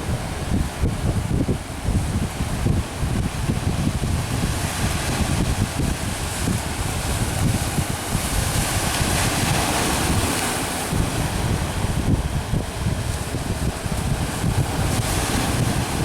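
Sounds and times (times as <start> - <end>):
sea waves and surf: 0.0 - 16.0
wind buffeting microphone: 0.0 - 16.0.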